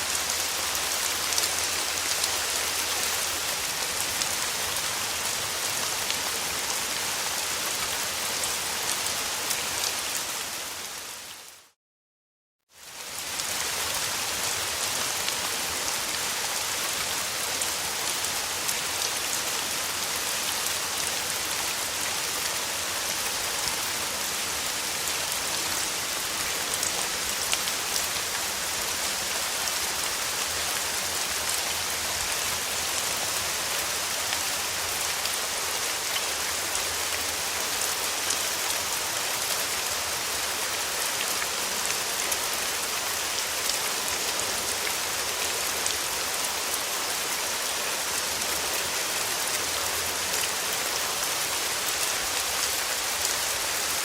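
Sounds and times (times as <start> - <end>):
steady rainfall: 0.0 - 11.8, 12.7 - 54.0.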